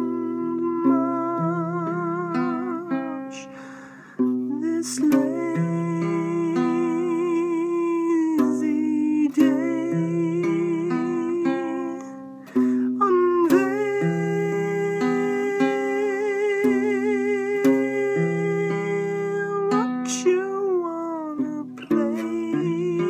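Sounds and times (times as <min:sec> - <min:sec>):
man singing with vibrato: 0:00.0 - 0:23.0
ukulele chords: 0:00.0 - 0:23.0.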